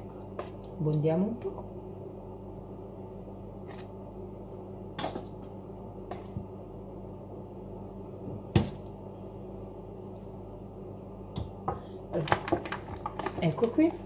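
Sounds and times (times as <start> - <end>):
low hum: 0.0 - 13.1.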